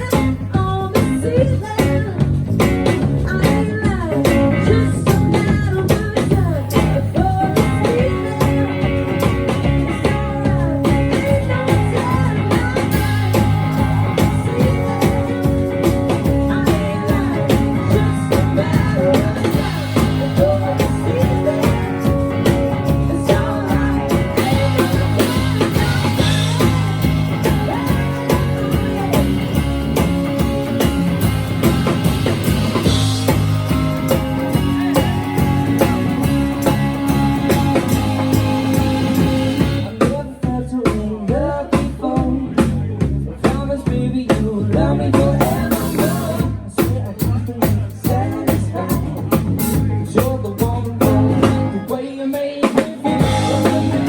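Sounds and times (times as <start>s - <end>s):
electric guitar: 0.0s - 40.3s, 44.6s - 54.0s
bass guitar: 0.0s - 54.0s
steady drum beat: 0.0s - 54.0s
person singing: 2.9s - 30.9s, 32.8s - 54.0s.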